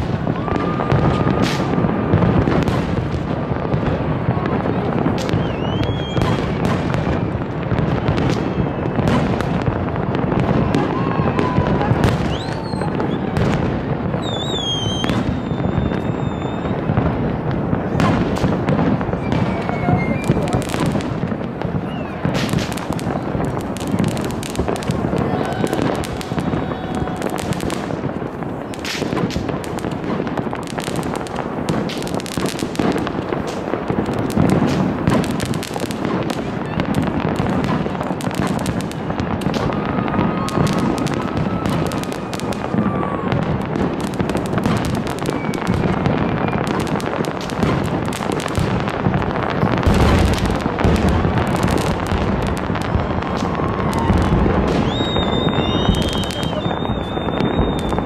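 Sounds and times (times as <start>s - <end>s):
firework whistles: 0.0s - 17.2s, 17.9s - 58.0s
fireworks bangs and crackles: 0.0s - 58.0s.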